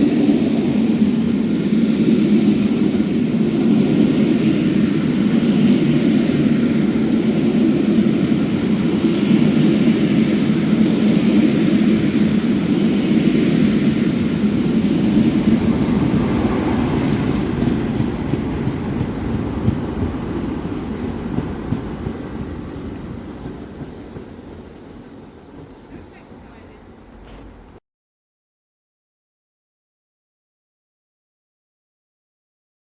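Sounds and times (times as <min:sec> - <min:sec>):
train rumbling past: 0:00.0 - 0:27.8.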